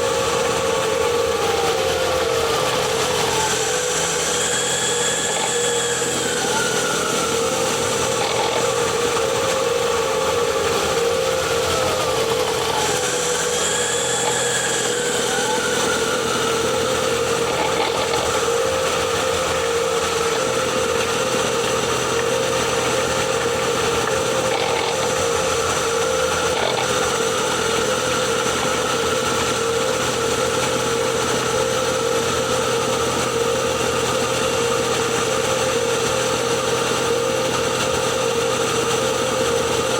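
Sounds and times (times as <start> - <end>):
transmission whine: 0.0 - 39.9.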